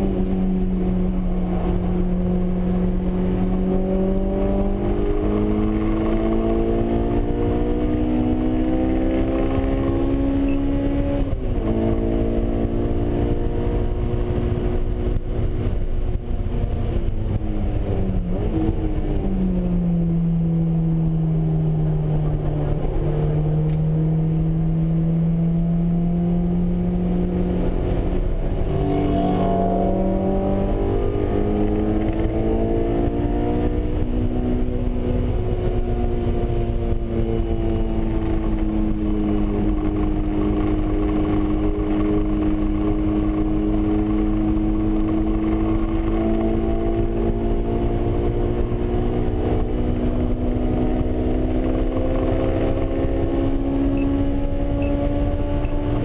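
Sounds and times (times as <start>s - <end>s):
car engine from inside cabin: 0.0s - 56.0s
road rumble: 0.0s - 56.0s.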